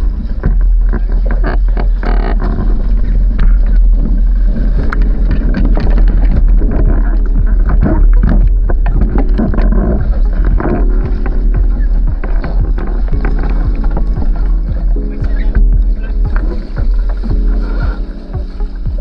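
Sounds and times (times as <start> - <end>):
water slapping against hull: 0.0 - 19.0
wind buffeting microphone: 0.0 - 19.0.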